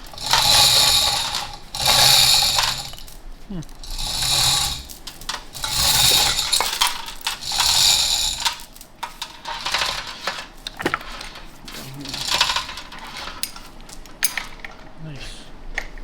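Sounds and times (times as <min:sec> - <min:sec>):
metal parts clinking and rattling: 0:00.0 - 0:15.0.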